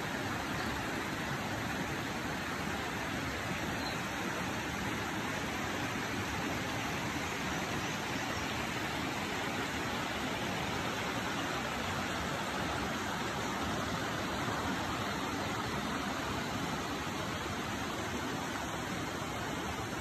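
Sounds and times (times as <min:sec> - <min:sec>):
creek water rushing over rock: 0:00.0 - 0:20.0.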